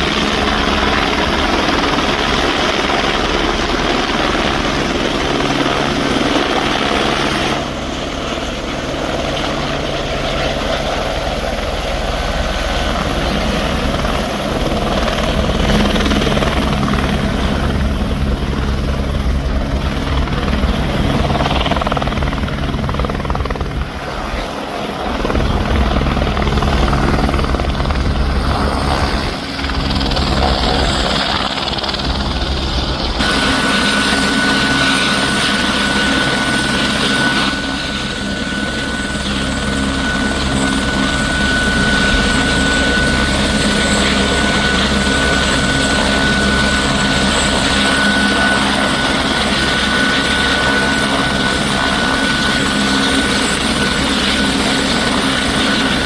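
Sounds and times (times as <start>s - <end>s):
helicopter turbine and rotor noise: 0.0s - 56.0s
high turbine whine: 0.0s - 56.0s.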